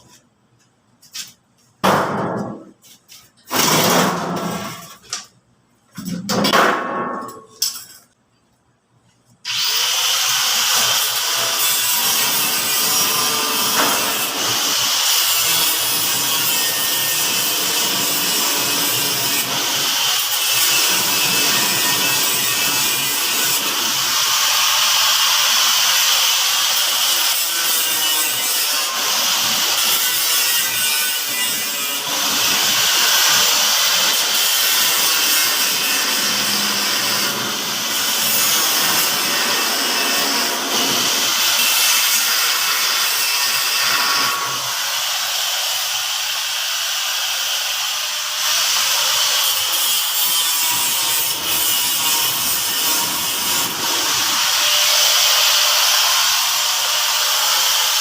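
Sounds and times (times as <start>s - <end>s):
angle grinder on metal: 9.5s - 58.0s.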